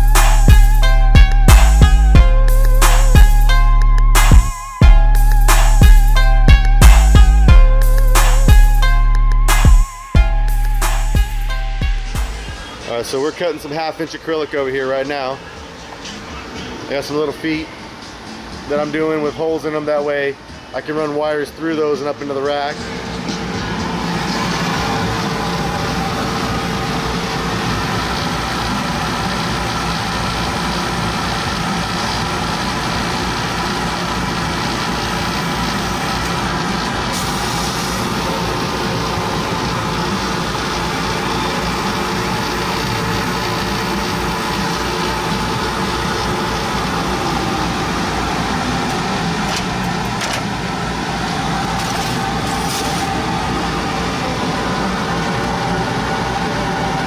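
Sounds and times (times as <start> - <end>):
laser cutter drone: 0.0 - 16.8, 22.4 - 57.0.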